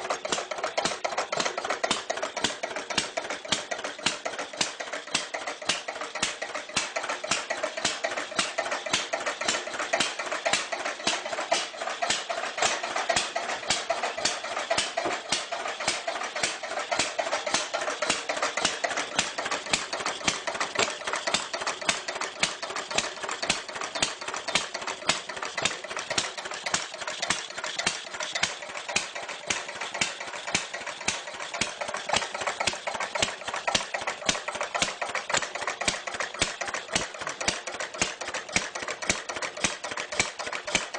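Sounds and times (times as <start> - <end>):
old engine clattering: 0.0 - 40.9.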